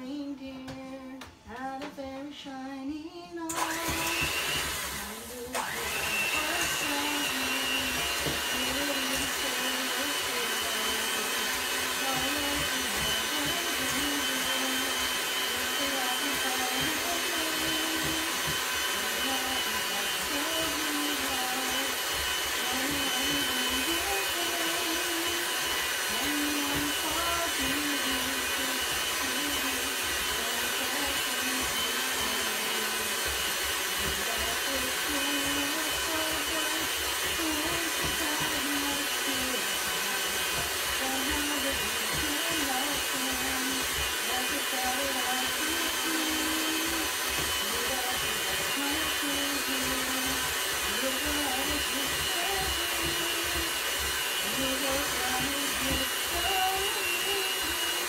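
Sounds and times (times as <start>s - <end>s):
electric mixer running: 3.5s - 58.0s.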